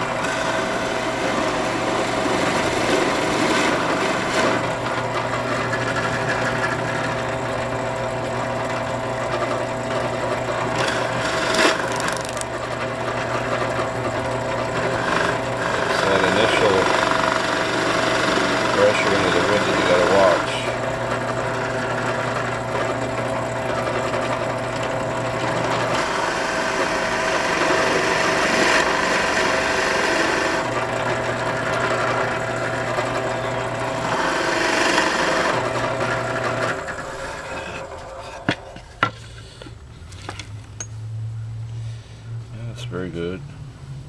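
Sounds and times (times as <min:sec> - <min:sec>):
drill press boring wood: 0:00.0 - 0:40.4.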